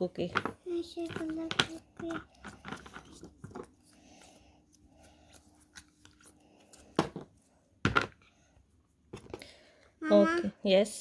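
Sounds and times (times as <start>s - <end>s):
handling play dough and toy tools: 0.0s - 9.9s.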